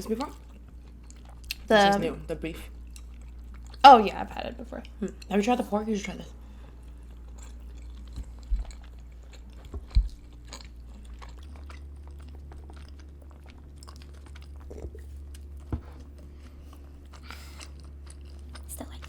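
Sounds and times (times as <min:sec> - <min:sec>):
chewing and biting food: 0:00.0 - 0:02.1, 0:02.7 - 0:03.8, 0:06.6 - 0:19.0.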